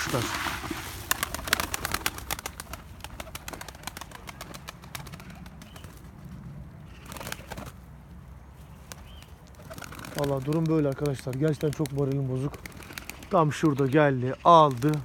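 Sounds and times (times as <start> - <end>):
wings rustling: 0.0 - 7.9, 8.6 - 15.0.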